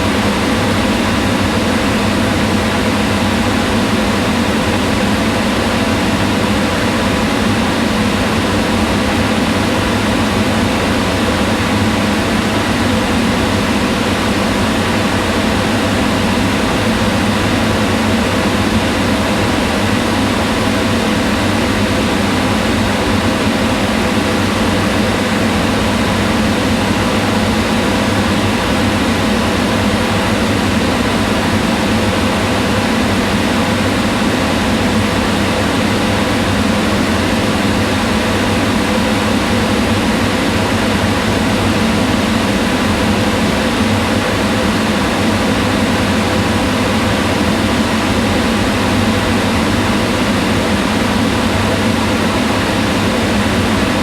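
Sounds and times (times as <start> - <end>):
range hood fan running: 0.0 - 54.0.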